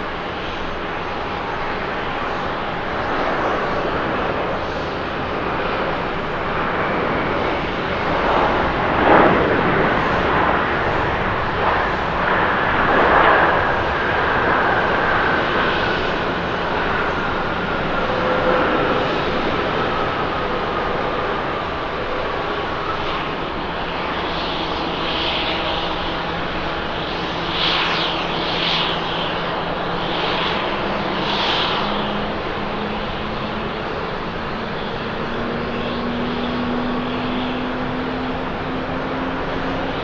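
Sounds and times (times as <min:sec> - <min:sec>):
jet engine rumble: 0:00.0 - 0:40.0.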